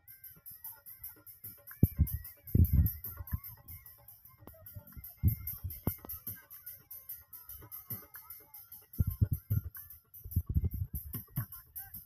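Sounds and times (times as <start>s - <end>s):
dhol drum music: 0.1s - 12.0s.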